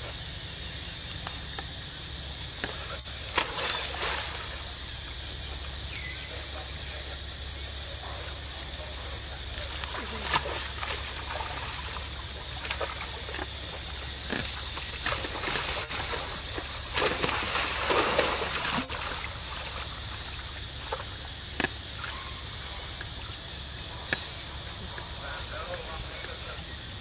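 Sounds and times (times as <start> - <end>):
water trickling and splashing: 2.3 - 6.9, 7.8 - 24.9.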